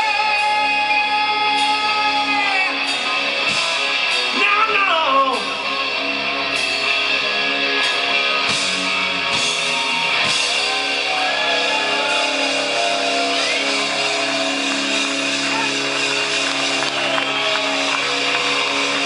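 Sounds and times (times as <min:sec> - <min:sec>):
electric guitar: 0:00.0 - 0:19.0
live rock band: 0:00.0 - 0:19.0.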